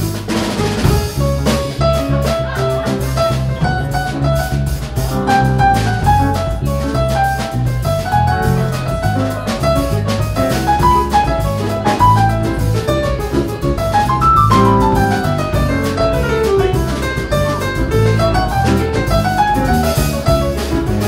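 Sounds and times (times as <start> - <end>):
bass line: 0.0 - 21.0
drum kit cymbals: 0.0 - 21.0
piano melody: 0.0 - 21.0.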